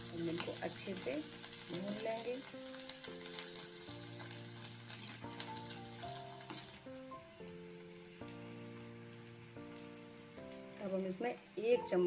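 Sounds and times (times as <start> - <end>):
food sizzling in a wok: 0.0 - 12.0
soft background music: 0.0 - 12.0.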